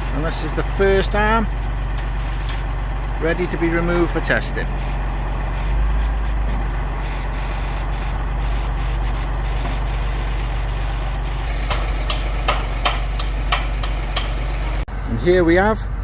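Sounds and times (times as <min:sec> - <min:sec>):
heavy machine engine idling: 0:00.0 - 0:16.0.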